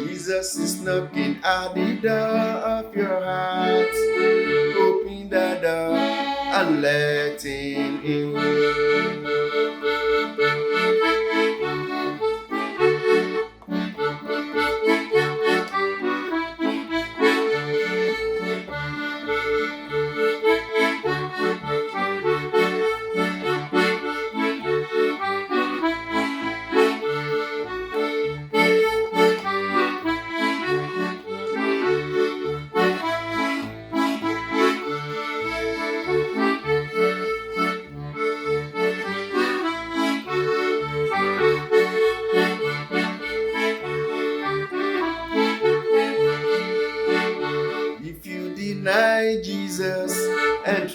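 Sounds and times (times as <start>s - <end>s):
instrumental melody with held chords: 0.0s - 50.9s.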